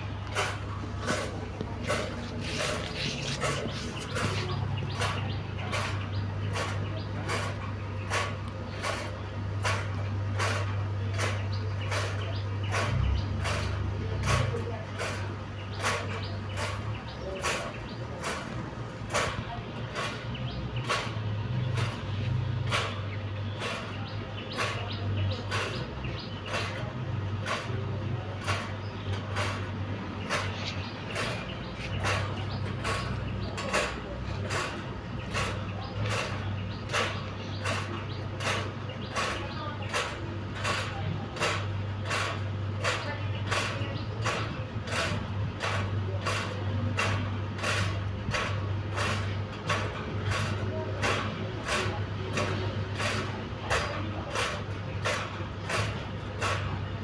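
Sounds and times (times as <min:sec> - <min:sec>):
fan turbine humming: 0:00.0 - 0:57.0
sharp scraping click: 0:00.2 - 0:57.0.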